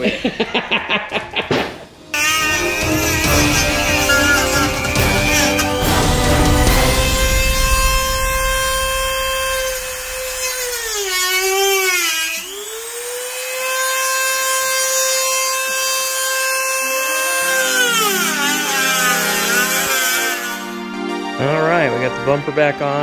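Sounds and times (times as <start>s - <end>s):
power tool motor whining: 2.2s - 21.1s.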